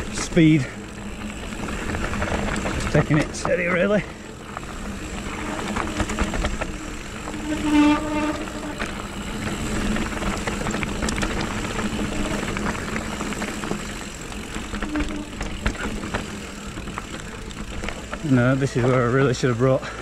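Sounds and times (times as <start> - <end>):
bike tyre and wind rumble: 0.0 - 20.0.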